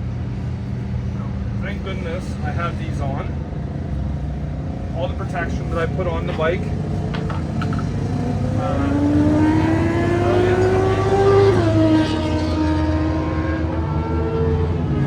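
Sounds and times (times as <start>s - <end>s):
vehicle engine accelerating: 0.0s - 15.0s.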